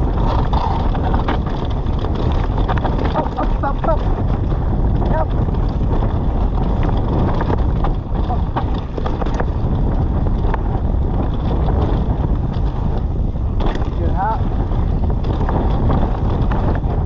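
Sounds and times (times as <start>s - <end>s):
bike clattering over rough ground: 0.0s - 17.0s
bike tyres rolling: 0.0s - 17.0s
wind rushing over microphone: 0.0s - 17.0s.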